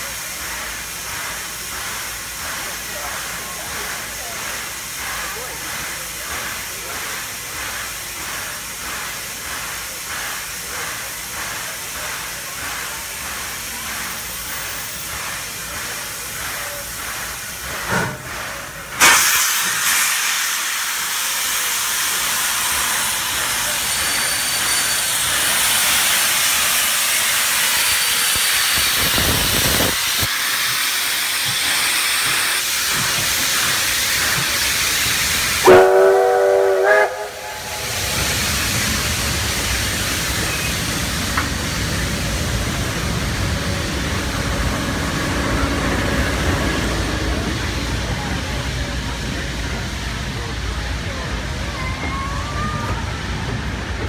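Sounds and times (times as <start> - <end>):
loud steam hiss: 0.0 - 54.0
steam locomotive simmering: 0.0 - 54.0.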